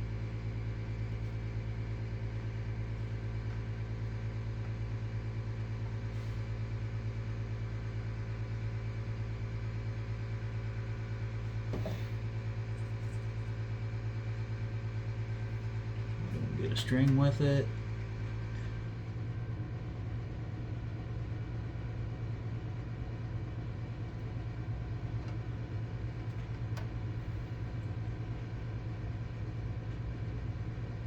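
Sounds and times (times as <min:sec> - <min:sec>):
low equipment hum: 0:00.0 - 0:31.0.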